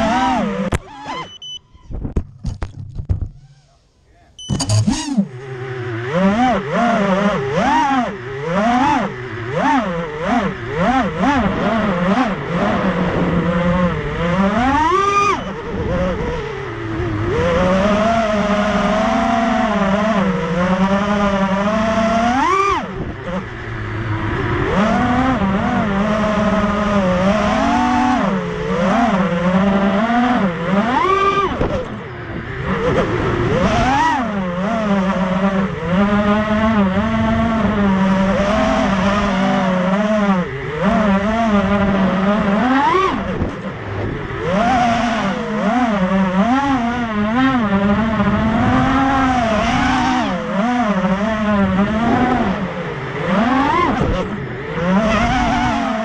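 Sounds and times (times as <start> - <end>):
quadcopter motors whining: 0.0 - 2.0, 3.3 - 56.0.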